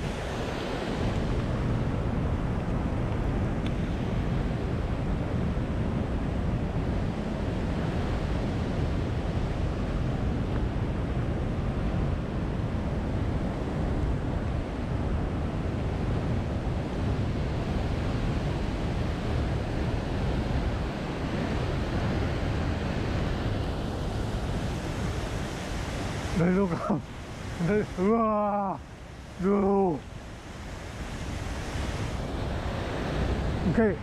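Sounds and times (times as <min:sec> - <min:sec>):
water rushing: 0:00.0 - 0:34.0
wind noise on microphone: 0:00.0 - 0:34.0.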